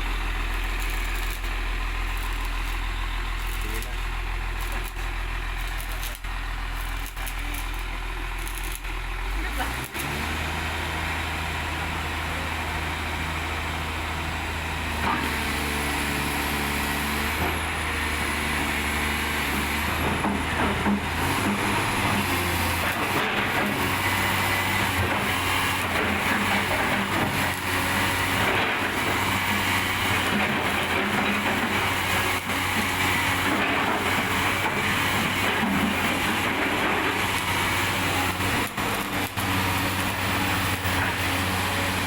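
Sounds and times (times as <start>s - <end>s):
large diesel engine running: 0.0s - 42.0s.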